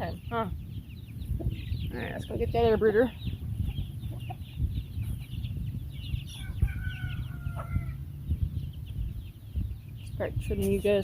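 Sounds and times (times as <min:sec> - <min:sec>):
chicks peeping: 0:00.0 - 0:11.0
steady low rumble: 0:00.0 - 0:11.0.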